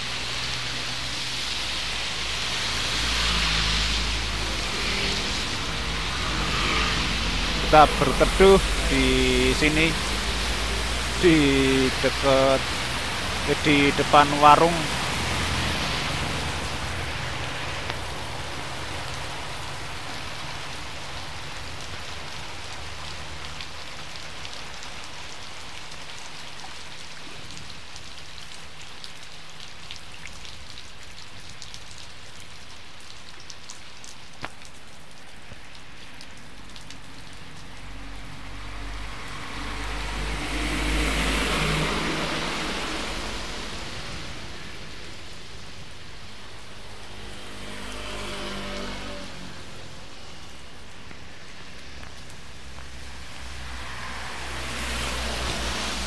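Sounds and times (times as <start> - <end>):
heavy rain on wet ground: 0.0 - 56.0
vehicle passing on flooded road: 0.0 - 56.0.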